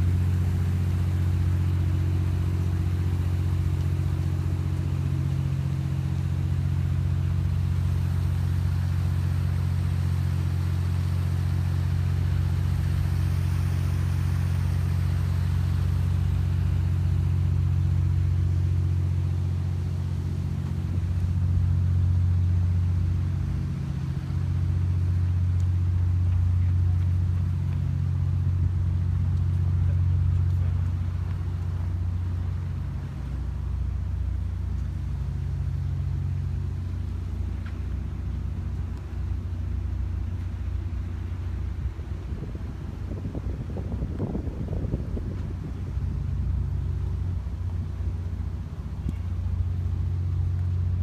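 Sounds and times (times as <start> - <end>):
low mechanical rumble: 0.0 - 51.0.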